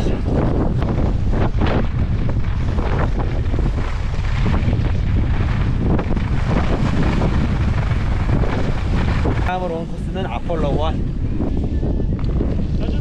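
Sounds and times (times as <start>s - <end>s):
wind blasting across microphone: 0.0s - 13.0s.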